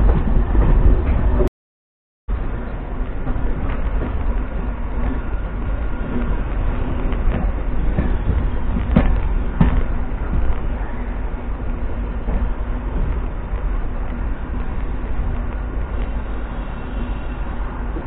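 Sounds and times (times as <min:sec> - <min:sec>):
electric train rumbling: 0:00.0 - 0:01.5, 0:02.3 - 0:18.0.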